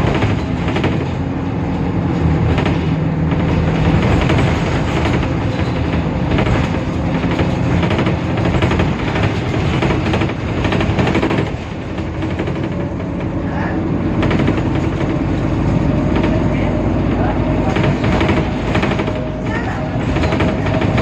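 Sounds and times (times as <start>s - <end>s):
bus diesel engine rattling: 0.0s - 21.0s.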